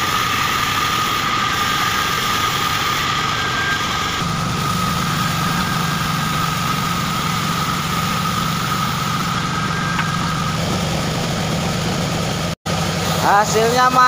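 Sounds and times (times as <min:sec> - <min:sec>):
band saw cutting plank: 0:00.0 - 0:13.7.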